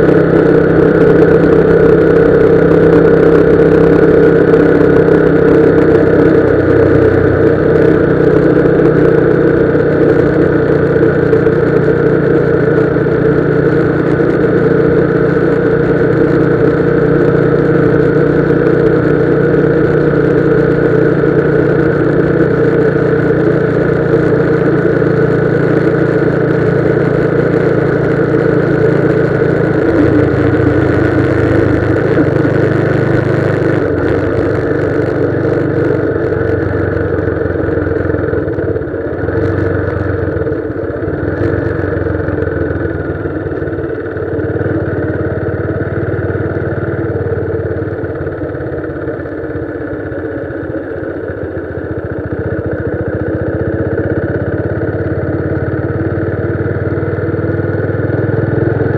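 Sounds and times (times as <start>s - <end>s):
motorcycle engine running: 0.0s - 58.9s
road noise: 0.0s - 58.9s.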